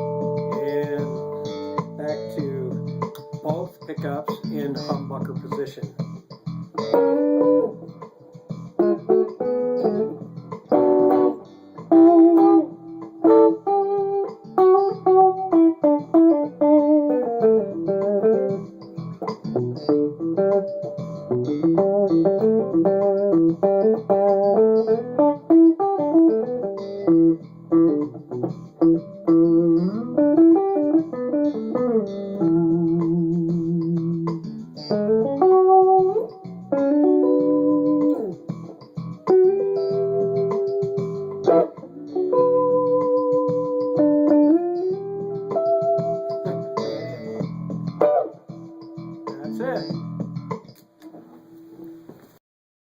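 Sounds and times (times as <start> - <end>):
electric guitar runs and chords: 0.0 - 51.3.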